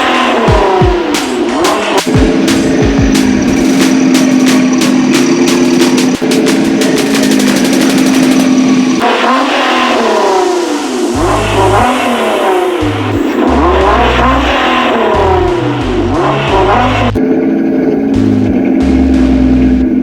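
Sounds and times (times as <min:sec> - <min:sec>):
electronic beat music: 0:00.0 - 0:09.0, 0:10.0 - 0:20.0
sports car engine revving: 0:00.0 - 0:20.0.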